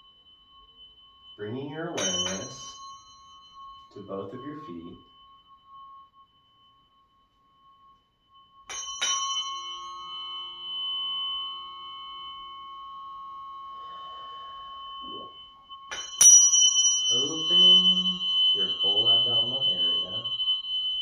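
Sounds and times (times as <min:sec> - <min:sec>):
tuning fork struck and ringing: 0:00.0 - 0:21.0.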